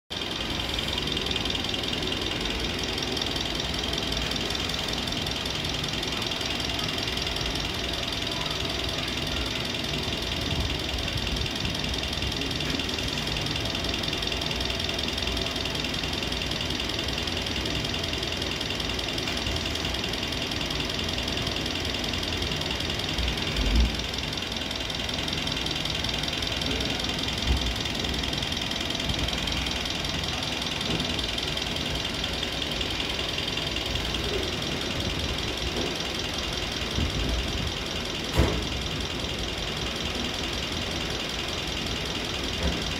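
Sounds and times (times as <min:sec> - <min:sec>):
machine running with whine: 0:00.1 - 0:42.9.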